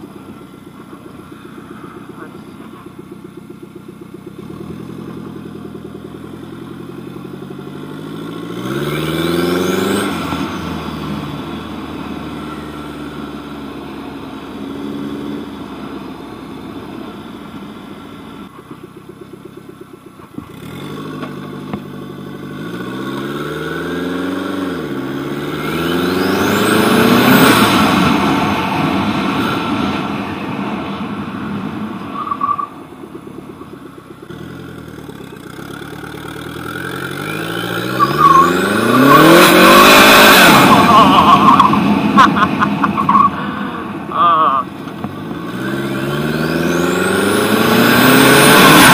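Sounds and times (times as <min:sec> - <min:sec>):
lawn tractor engine accelerating: 0:00.0 - 0:48.9.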